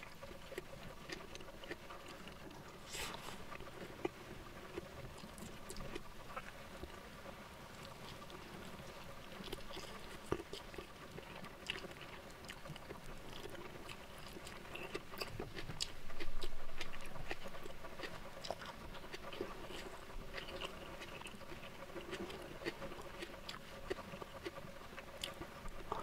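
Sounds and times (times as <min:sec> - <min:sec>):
wet chewing and biting: 0:00.1 - 0:07.0, 0:07.8 - 0:26.0.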